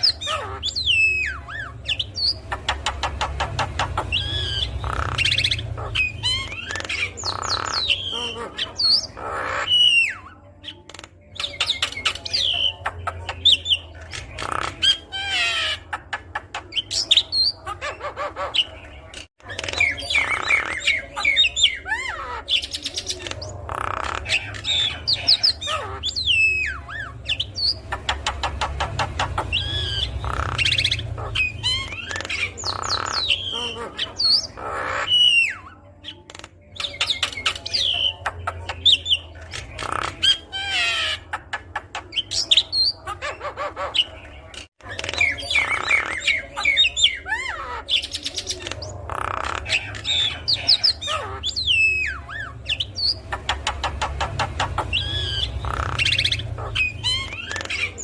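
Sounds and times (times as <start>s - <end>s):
bird singing whistles and squawks: 0.0s - 15.9s, 19.4s - 41.3s, 44.8s - 58.0s.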